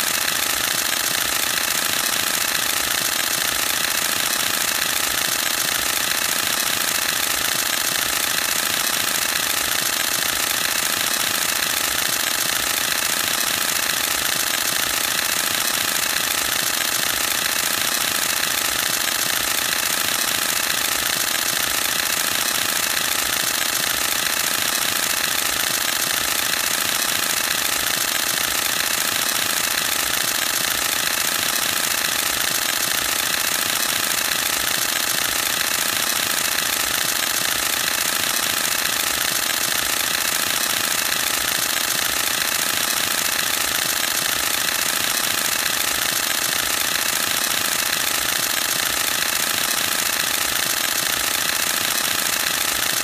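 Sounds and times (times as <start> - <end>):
camera shutter burst clatter: 0.0 - 53.0.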